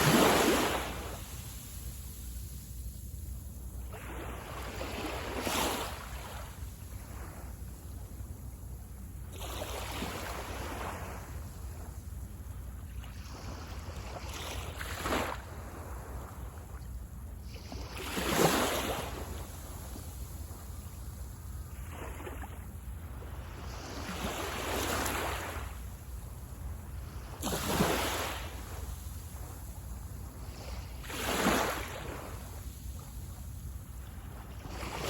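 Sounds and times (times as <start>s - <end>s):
waves breaking on a beach: 0.0s - 35.0s.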